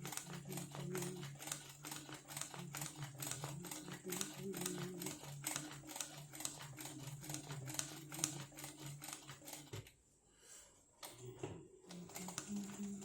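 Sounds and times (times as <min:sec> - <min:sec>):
sewing machine motor hum: 0:00.0 - 0:09.9, 0:11.9 - 0:13.0.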